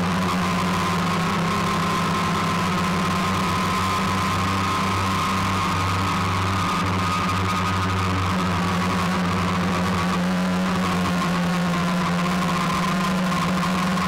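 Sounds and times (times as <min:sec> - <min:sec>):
drone motors humming and whining: 0:00.0 - 0:14.0.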